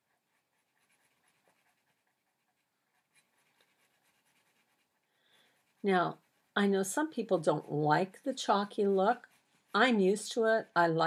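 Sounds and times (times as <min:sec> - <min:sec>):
chalk pencil scratching: 0:00.0 - 0:11.0.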